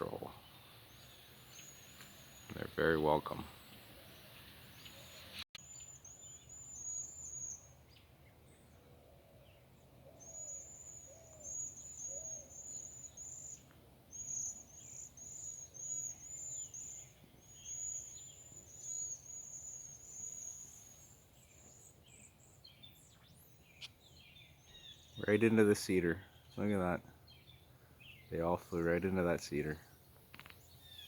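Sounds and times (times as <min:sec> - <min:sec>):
songbirds calling: 0:00.0 - 0:31.0.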